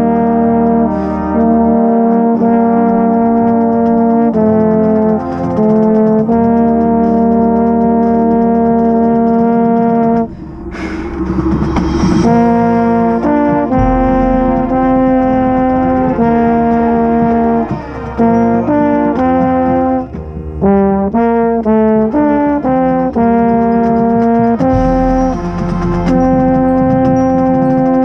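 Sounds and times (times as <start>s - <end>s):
marching band brass playing: 0.0s - 28.0s
marching baritone: 0.0s - 28.0s.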